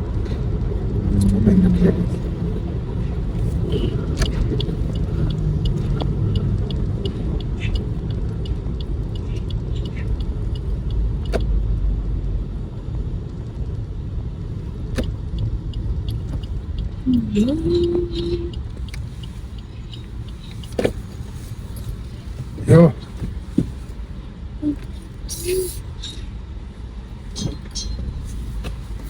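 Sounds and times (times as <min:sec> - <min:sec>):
car interior rumble: 0:00.0 - 0:29.0
turn signal ticking: 0:00.0 - 0:29.0.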